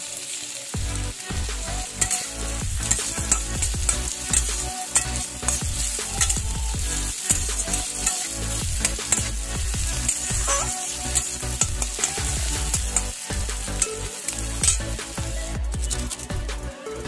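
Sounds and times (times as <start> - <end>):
onions sizzling in hot oil: 0.0 - 16.5
metal spatula scraping a pan: 1.7 - 16.4.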